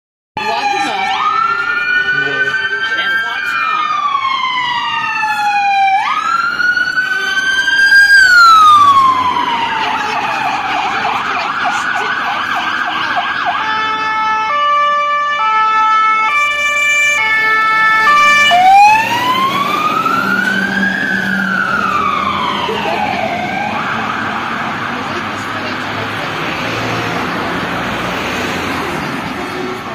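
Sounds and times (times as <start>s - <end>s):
fire engine sirens wailing: 0.4s - 29.9s.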